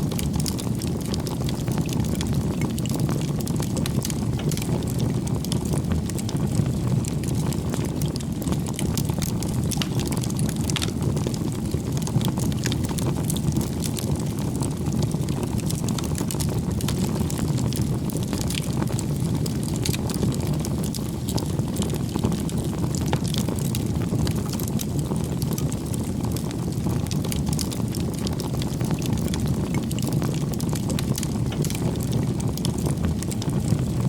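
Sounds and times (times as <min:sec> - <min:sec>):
burning wood crackling and popping: 0:00.0 - 0:34.0
rush of flames: 0:00.0 - 0:34.0.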